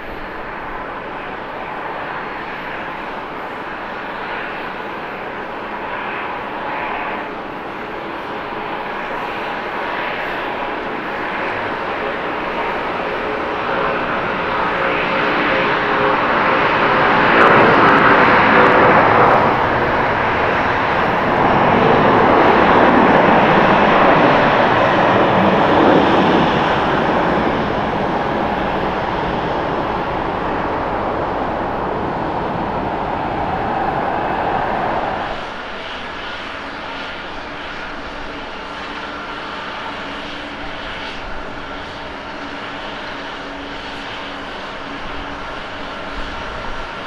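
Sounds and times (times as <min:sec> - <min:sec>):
jet engines at takeoff: 0:00.0 - 0:47.0
steady jet engine noise: 0:00.0 - 0:47.0.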